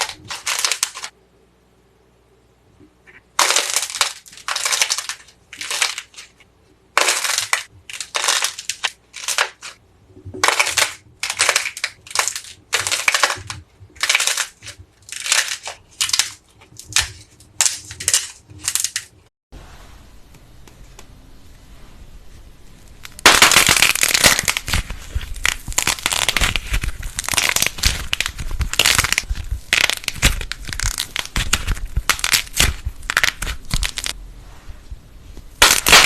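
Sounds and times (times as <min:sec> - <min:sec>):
crisp crackling and crunching: 0:00.0 - 0:01.1, 0:03.2 - 0:19.3, 0:22.7 - 0:34.2, 0:35.4 - 0:36.0.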